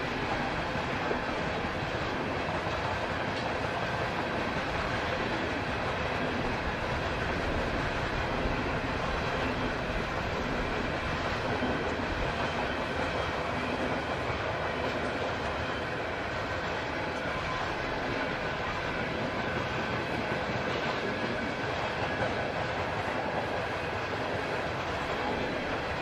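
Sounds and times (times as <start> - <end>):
freight train wheels rumbling on rails: 0.0 - 26.0.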